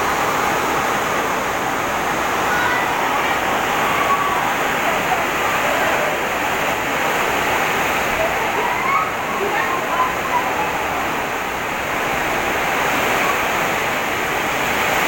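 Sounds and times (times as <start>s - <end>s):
heavy rain: 0.0s - 15.0s
strong wind: 0.0s - 15.0s
faint voices: 1.6s - 15.0s.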